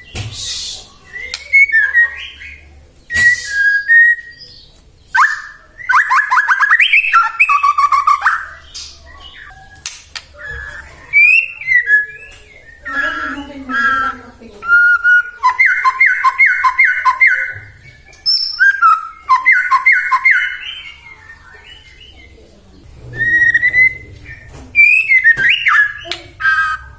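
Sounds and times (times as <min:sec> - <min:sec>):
bird singing whistled song: 0:00.0 - 0:22.4, 0:23.2 - 0:26.9.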